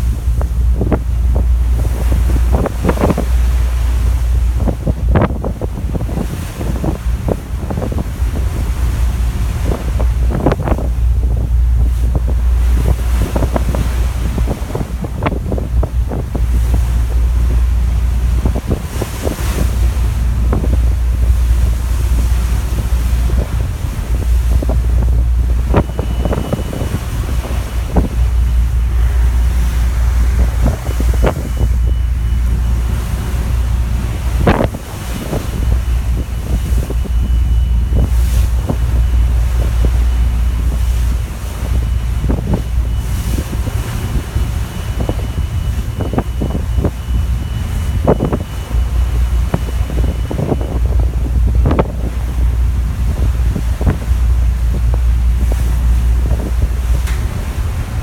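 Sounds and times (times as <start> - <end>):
rush of the sea: 0.0 - 58.0
wind buffeting microphone: 0.0 - 58.0.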